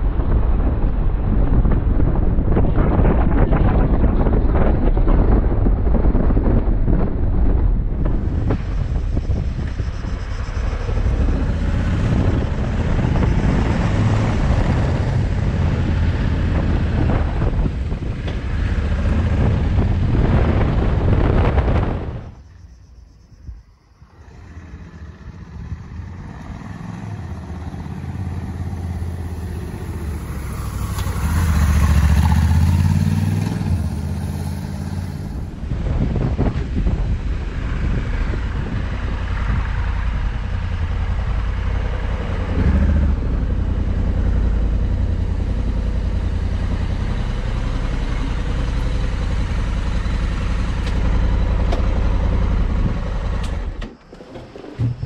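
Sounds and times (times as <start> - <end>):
motorcycle engine pulling uphill: 7.8 - 22.6, 24.2 - 55.0.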